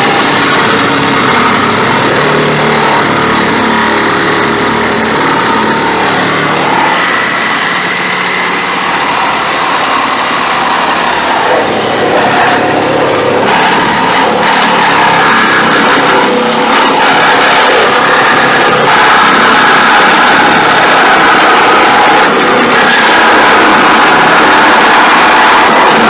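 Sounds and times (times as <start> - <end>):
power cutting tool cutting metal: 0.0 - 26.0.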